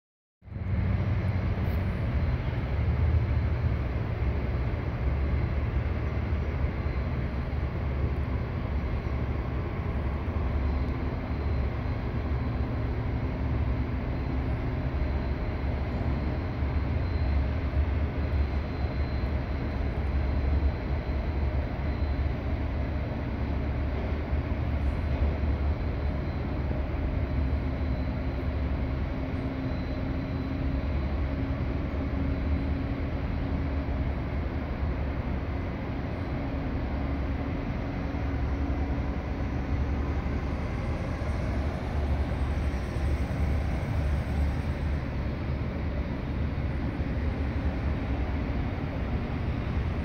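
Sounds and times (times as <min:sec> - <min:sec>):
ship engine drone: 0:00.4 - 0:50.0.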